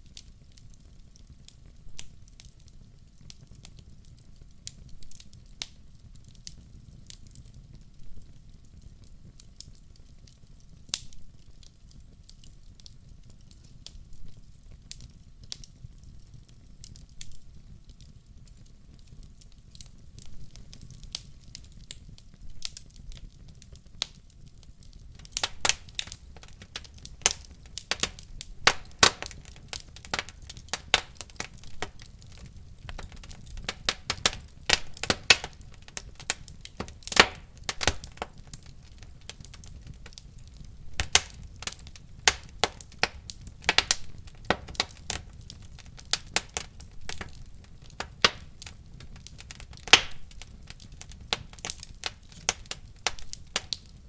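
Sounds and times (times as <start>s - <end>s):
fire low rumble: 0.0s - 54.0s
wood fire crackling: 0.0s - 54.0s.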